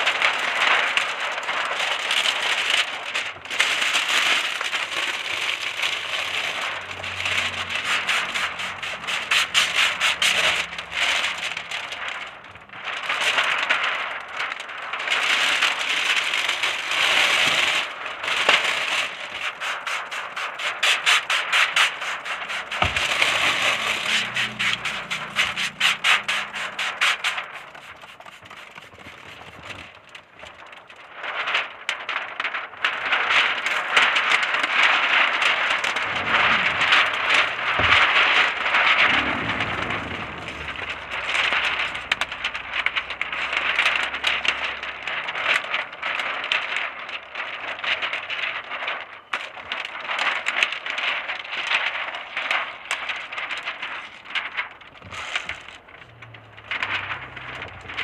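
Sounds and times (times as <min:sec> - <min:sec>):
plastic film crackling and scraping: 0:00.0 - 0:58.0.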